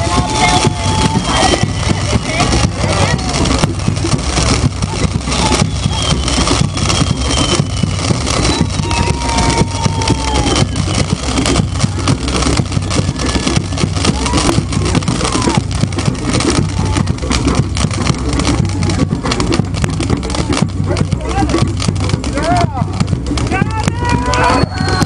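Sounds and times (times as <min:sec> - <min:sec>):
bonfire roaring and crackling: 0:00.0 - 0:25.0.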